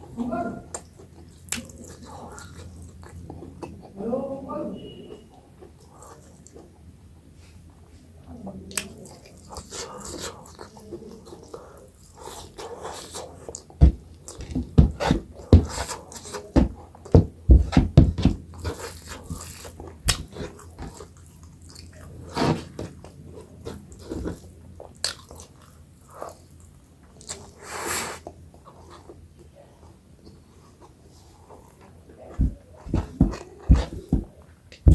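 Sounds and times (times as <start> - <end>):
person chewing food: 0.7 - 4.0, 5.5 - 34.9.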